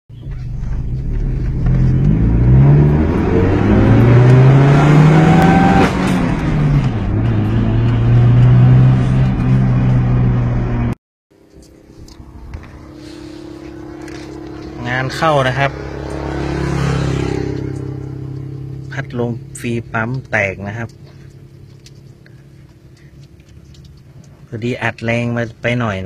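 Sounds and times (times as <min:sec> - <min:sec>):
car engine revving: 0:00.2 - 0:24.6.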